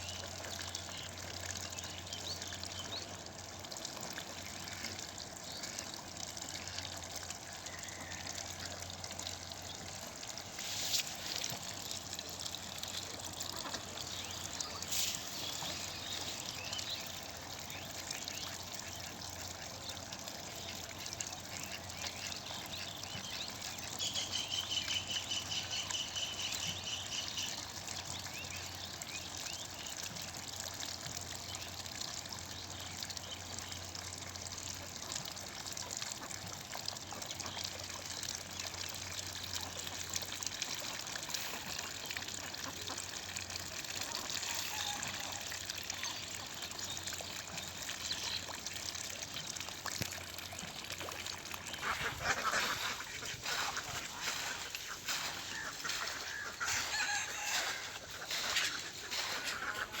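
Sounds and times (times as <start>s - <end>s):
water trickling and splashing: 0.0s - 60.0s.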